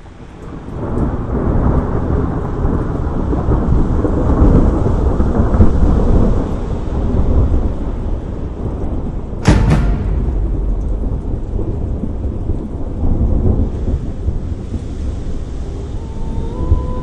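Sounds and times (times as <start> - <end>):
steady rain: 0.0 - 17.0
rolling thunder rumble: 0.5 - 17.0
thunderclap: 0.8 - 17.0.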